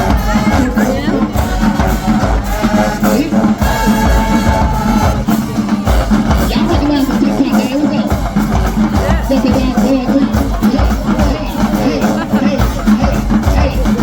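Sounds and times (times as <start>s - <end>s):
drums beating: 0.0s - 14.0s
marching band brass: 0.0s - 14.0s.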